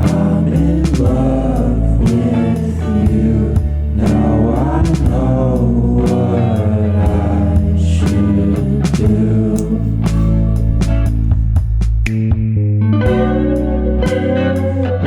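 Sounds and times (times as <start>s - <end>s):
song with vocal and beat: 0.0s - 15.0s.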